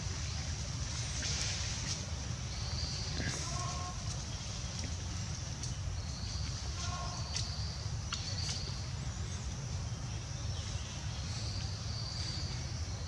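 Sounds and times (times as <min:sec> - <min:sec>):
insect hiss: 0:00.0 - 0:13.0.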